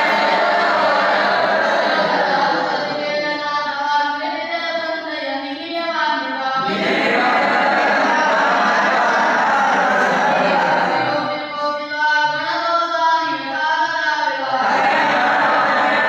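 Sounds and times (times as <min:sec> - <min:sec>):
boys chanting together: 0:00.0 - 0:16.0.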